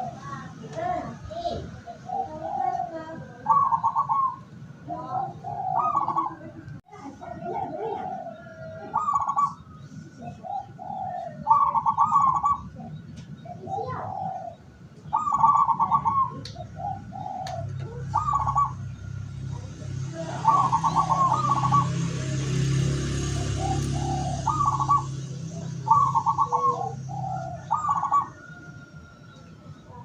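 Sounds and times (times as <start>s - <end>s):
doves cooing in trills: 0.0s - 30.0s.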